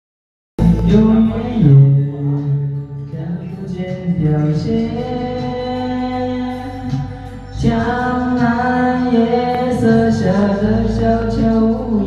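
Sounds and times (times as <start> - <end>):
backing music: 0.6 - 12.0
man singing: 0.6 - 12.0.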